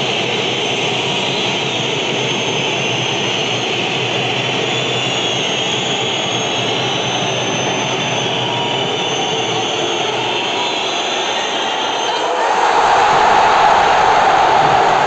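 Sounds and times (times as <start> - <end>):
stadium crowd noise: 0.0 - 15.0.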